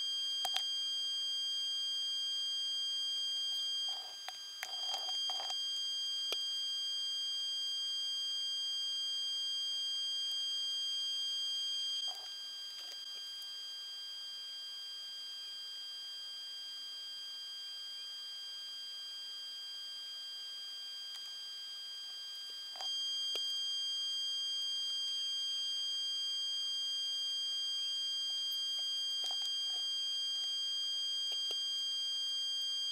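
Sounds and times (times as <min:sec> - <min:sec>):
high-pitched electronic whine: 0:00.0 - 0:32.9.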